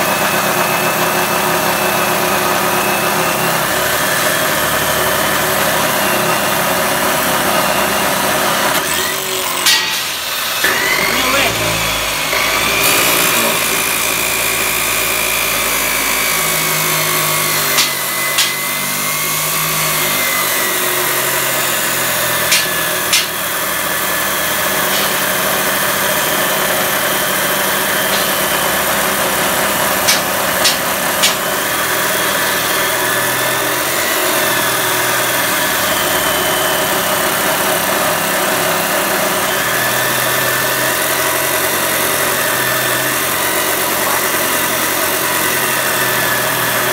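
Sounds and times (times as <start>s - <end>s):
chop saw grinding metal: 0.0s - 46.9s.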